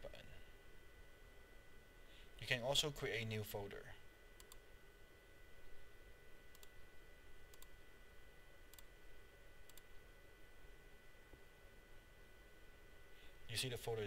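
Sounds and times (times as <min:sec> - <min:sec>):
faint high-pitched whine: 0:00.0 - 0:14.0.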